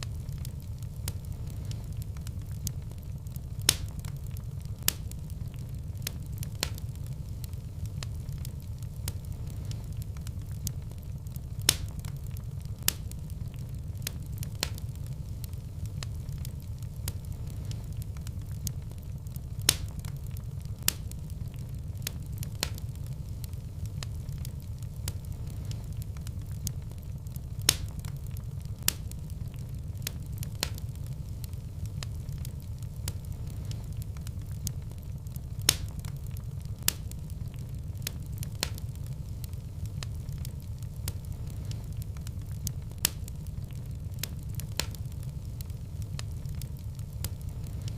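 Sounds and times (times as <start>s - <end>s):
fire crackling and popping: 0.0s - 47.9s
low rumble of flames: 0.0s - 47.9s.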